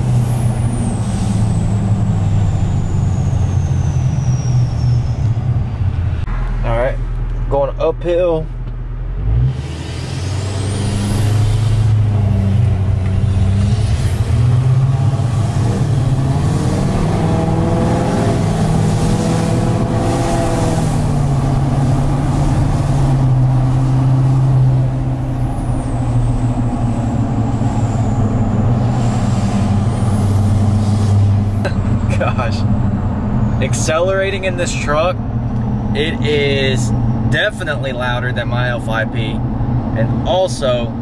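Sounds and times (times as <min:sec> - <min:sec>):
diesel engine accelerating: 0:00.0 - 0:41.0.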